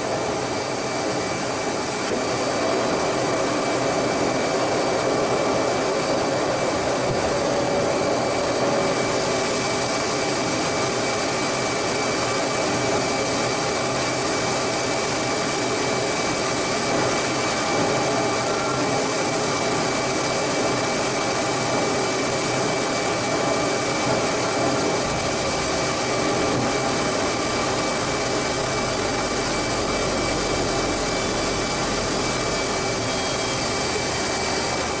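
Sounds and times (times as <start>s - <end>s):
jet engine and airflow rush: 0.0s - 35.0s.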